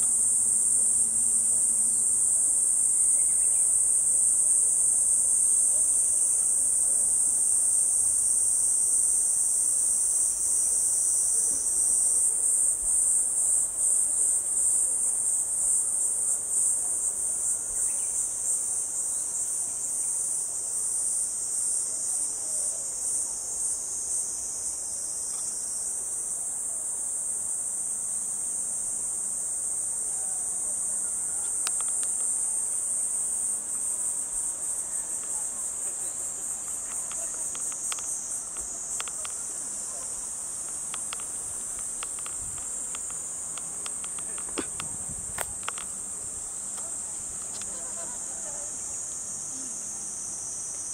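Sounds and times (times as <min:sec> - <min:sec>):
insects singing: 0:00.0 - 0:20.8, 0:26.9 - 0:50.9.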